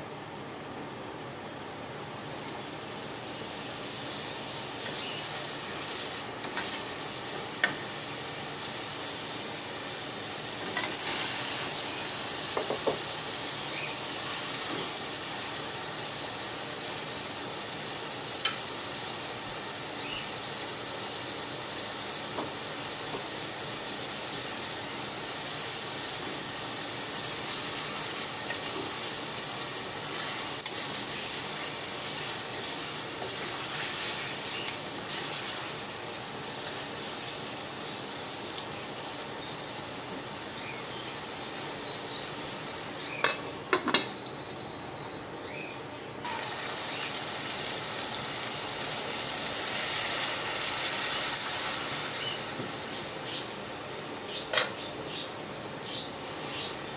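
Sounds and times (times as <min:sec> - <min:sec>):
fish sizzling in a pot: 0:00.0 - 0:44.8, 0:46.2 - 0:56.9.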